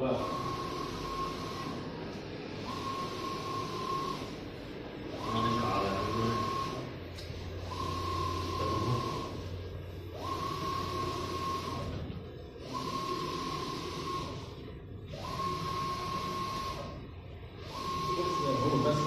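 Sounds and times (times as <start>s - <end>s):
printer carriage whining: 0.0s - 19.0s.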